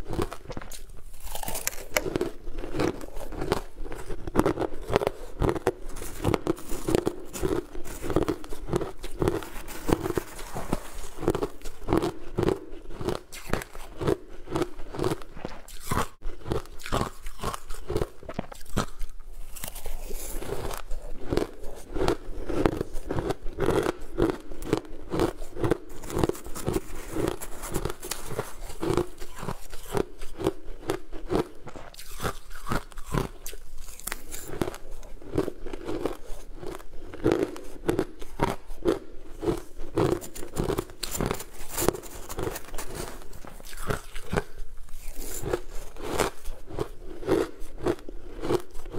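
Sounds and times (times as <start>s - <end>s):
crunching ice: 0.0s - 48.9s.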